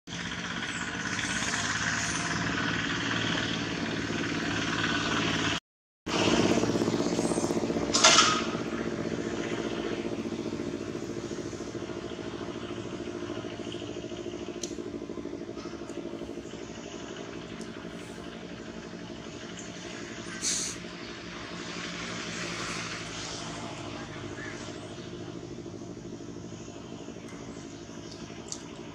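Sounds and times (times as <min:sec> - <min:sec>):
engine hum: 0:00.1 - 0:28.9.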